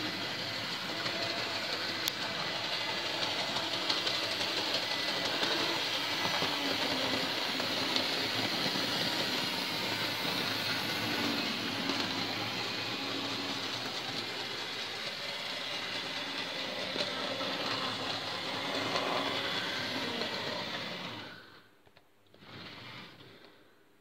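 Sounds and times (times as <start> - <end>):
wheels rattling over track: 0.0 - 21.2
model train motor whirring: 0.0 - 21.6.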